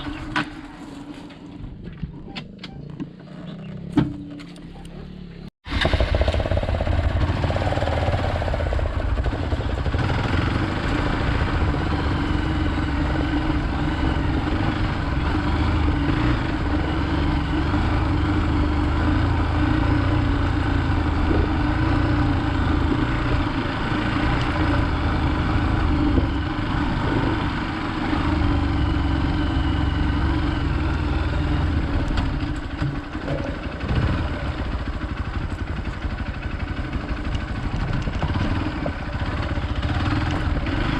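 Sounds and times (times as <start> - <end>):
motorcycle engine running: 1.6 - 40.9.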